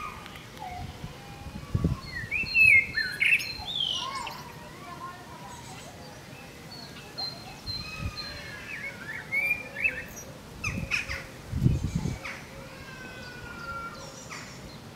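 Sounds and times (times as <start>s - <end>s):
songbirds chirping: 0.0s - 14.9s.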